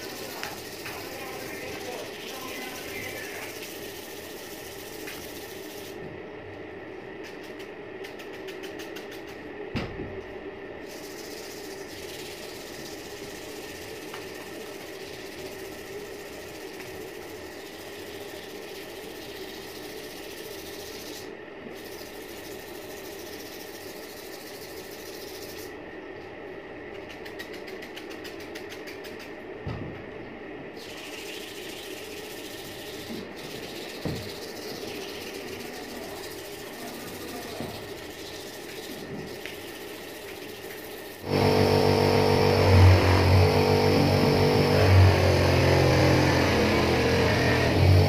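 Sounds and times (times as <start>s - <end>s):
machine hum: 0.0s - 27.2s, 29.4s - 48.0s.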